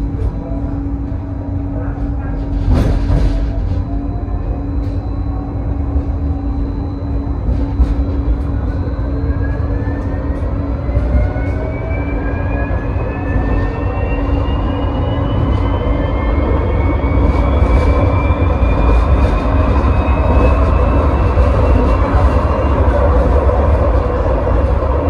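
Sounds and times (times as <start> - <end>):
tram traction motor whine: 0.0 - 25.0
wheels rumbling on rails: 0.0 - 25.0.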